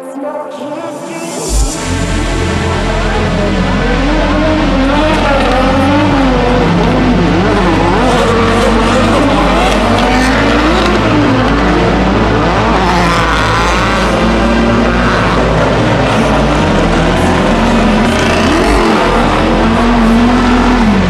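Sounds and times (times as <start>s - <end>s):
car engine revving: 0.6s - 21.0s.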